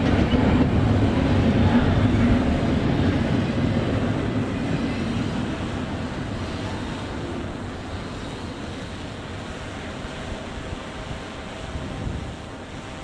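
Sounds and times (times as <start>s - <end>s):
freight train rumbling: 0.0s - 11.1s
wind noise: 0.0s - 13.0s.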